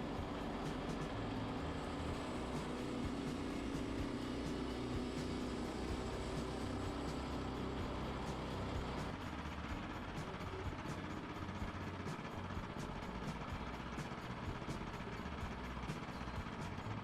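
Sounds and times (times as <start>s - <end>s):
sawmill gasoline engine running: 0.0s - 17.0s.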